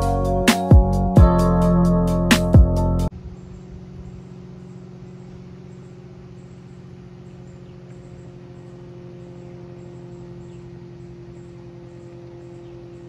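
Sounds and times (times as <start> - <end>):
distant propeller plane drone: 0.0 - 13.0.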